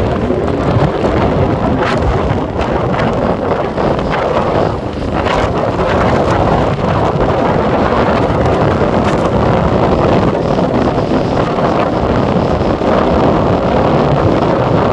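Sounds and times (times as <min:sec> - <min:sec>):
waves washing on beach: 0:00.0 - 0:14.9
wind buffeting microphone: 0:00.0 - 0:14.9.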